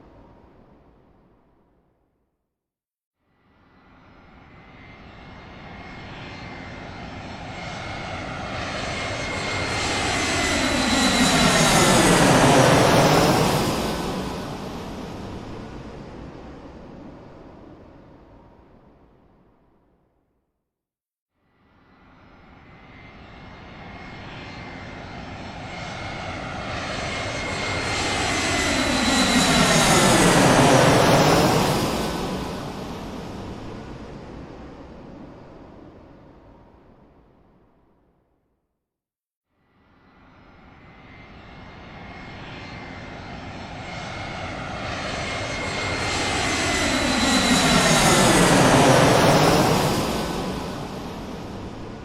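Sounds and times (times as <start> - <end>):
airplane flying over: 3.6 - 19.1, 21.8 - 37.0, 40.0 - 52.0.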